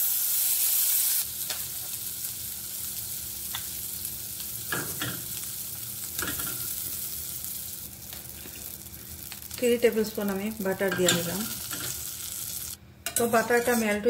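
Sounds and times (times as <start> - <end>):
butter sizzling in a saucepan: 0.0 - 14.0.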